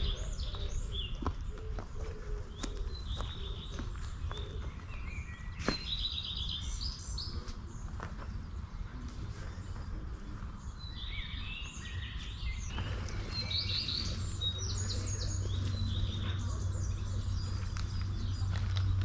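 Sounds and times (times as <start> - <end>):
songbirds chirping and singing: 0.0 - 19.0.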